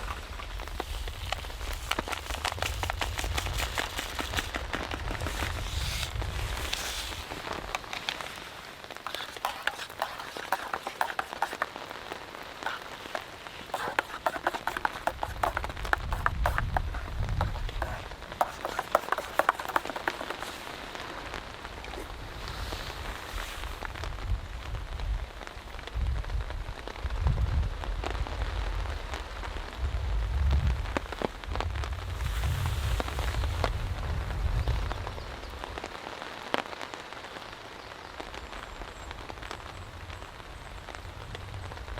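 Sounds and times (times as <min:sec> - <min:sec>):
heavy rain pattering on a tarp: 0:00.0 - 0:41.9.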